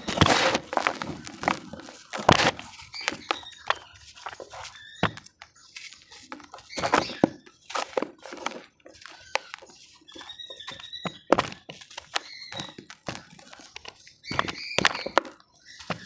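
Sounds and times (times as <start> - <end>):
crumbly material crunching: 0.0 - 16.0.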